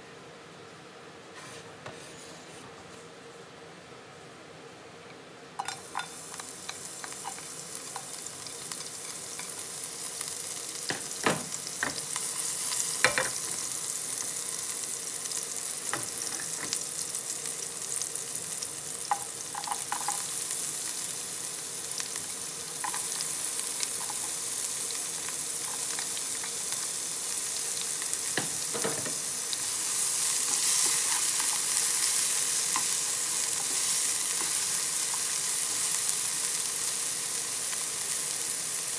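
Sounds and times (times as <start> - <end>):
garlic and onion sizzling in oil: 5.6 - 38.9.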